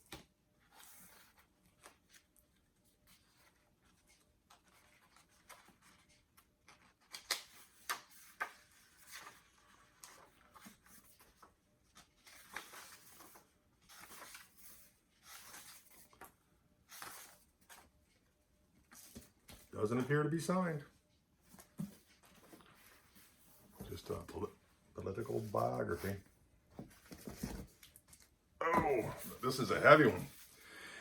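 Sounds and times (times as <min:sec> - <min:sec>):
book pages rustling: 0:00.0 - 0:20.4, 0:21.3 - 0:30.6.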